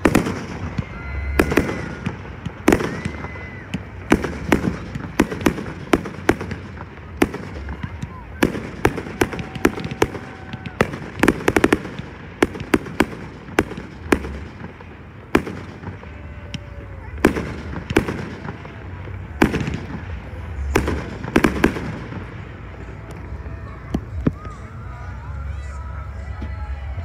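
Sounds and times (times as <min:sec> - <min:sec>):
firework crackling: 0:00.0 - 0:27.0.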